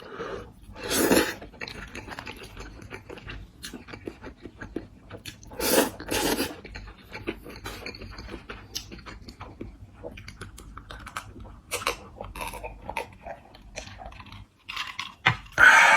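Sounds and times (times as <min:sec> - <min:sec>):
chewing and crunching food: 0:00.0 - 0:15.9.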